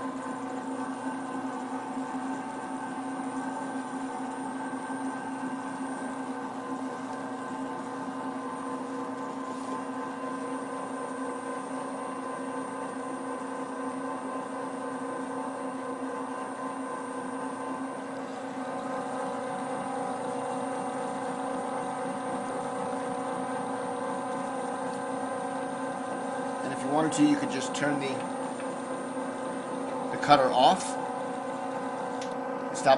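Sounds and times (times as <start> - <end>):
pasta extruder humming: 0.0 - 32.9.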